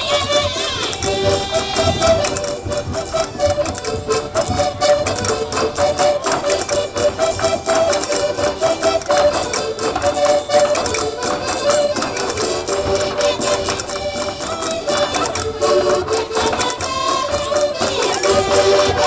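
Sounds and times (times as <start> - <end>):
accordion melody: 0.0 - 19.0
fast percussion clatter: 0.0 - 19.0.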